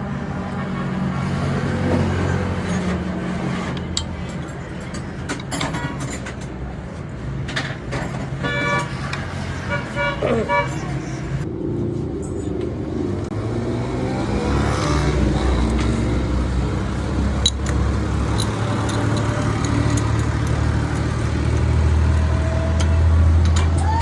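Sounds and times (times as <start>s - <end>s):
traffic noise: 0.0s - 24.0s
vehicle engines running: 0.0s - 24.0s.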